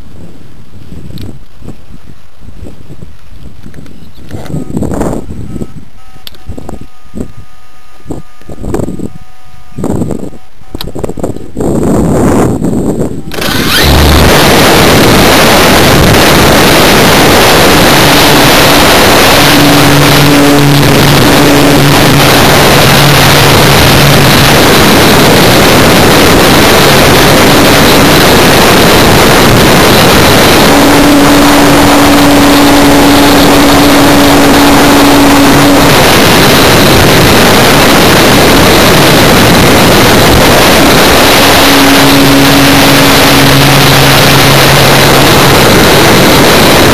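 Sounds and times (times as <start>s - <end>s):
wind rushing over microphone: 0.0s - 46.9s
electric motor and propeller drone: 0.9s - 46.9s.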